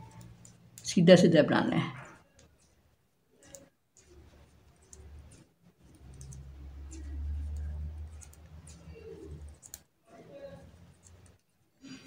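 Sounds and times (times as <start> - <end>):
knitting needles clicking: 0.0 - 11.7.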